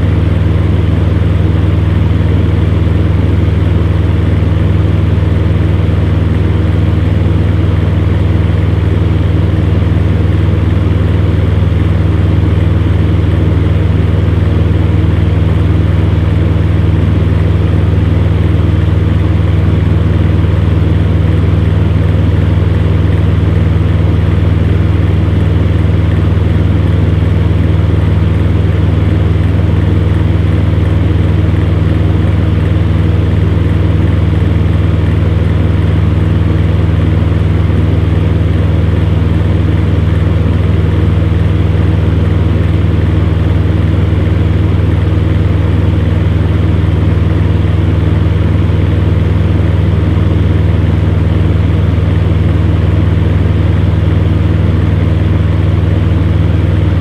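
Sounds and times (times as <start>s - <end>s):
electric fan running: 0.0s - 57.0s.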